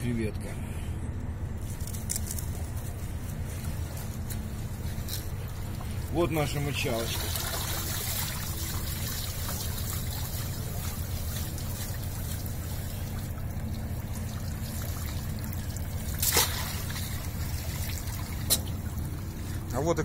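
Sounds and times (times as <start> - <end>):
water pouring off wet rope: 3.6 - 20.0.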